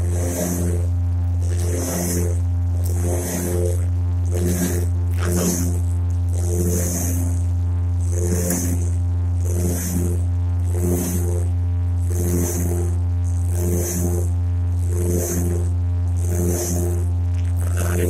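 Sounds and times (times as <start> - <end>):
aircraft drone in cockpit: 0.0 - 18.0.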